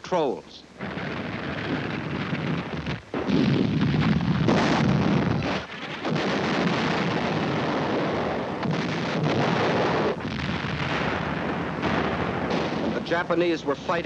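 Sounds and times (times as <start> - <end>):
explosions: 0.8 - 14.0
gunfire: 0.8 - 14.0.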